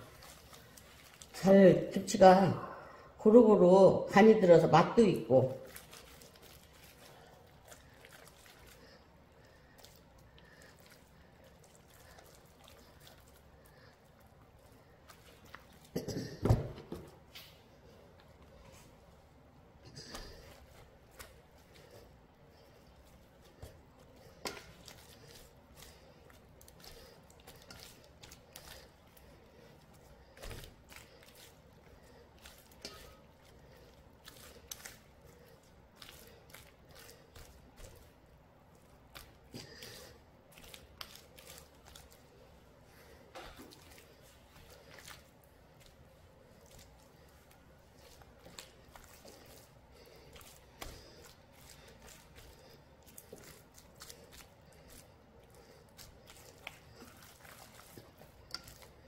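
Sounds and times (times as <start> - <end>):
wet squishing of hands in cabbage: 0.0 - 59.0.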